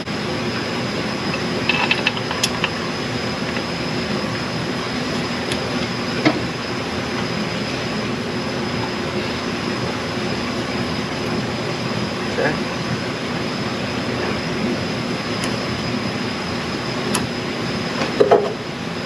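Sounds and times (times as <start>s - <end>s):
mechanical drone: 0.0s - 19.0s
thin high whine: 0.0s - 19.0s.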